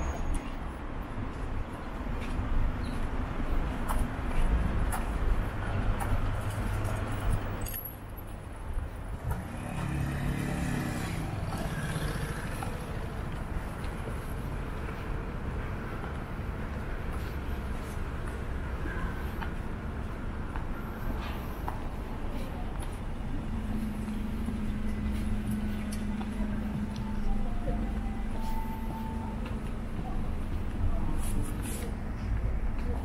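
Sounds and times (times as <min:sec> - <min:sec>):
general street hum: 0:00.0 - 0:33.0
traffic rumble: 0:00.0 - 0:33.0.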